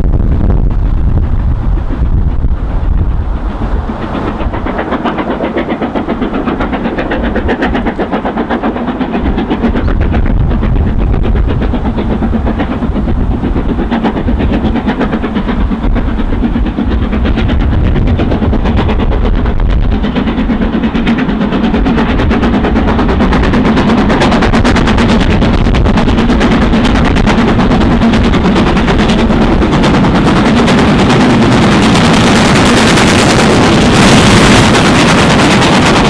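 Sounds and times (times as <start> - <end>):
steam locomotive exhaust beats: 0.0 - 36.0
wind buffeting microphone: 0.0 - 36.0.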